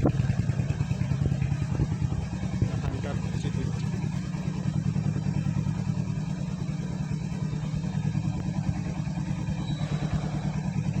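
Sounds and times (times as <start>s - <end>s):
single-cylinder motorcycle engine running: 0.0s - 11.0s.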